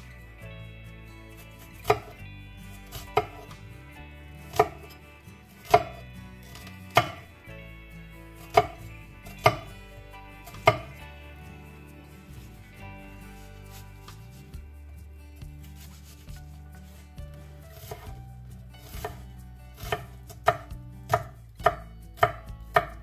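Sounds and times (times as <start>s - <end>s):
faint background music: 0.0s - 23.0s.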